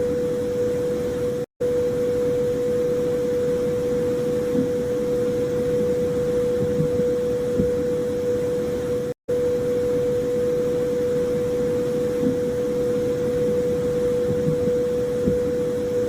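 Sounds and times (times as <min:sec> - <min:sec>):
synthesized drone tone: 0:00.0 - 0:16.0
faint wavering blips: 0:01.6 - 0:16.0.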